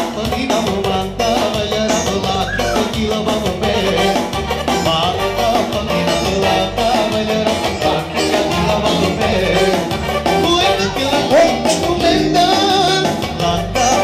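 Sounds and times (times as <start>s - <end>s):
loud dance music: 1.0s - 14.0s.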